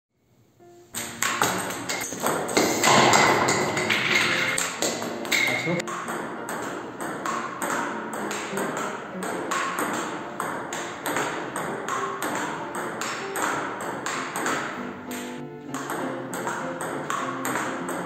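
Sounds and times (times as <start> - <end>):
table tennis ball clicks: 1.0 - 18.0.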